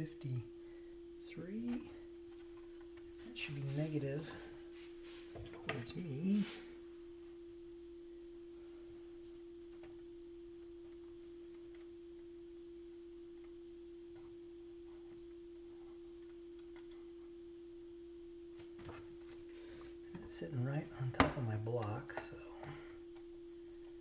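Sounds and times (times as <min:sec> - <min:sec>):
steady pure tone: 0:00.0 - 0:24.0.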